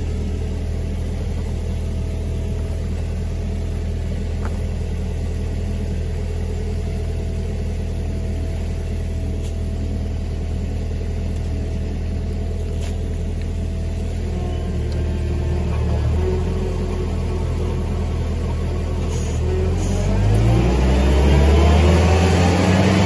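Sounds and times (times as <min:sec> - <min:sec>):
stump grinder engine droning: 0:00.0 - 0:23.0.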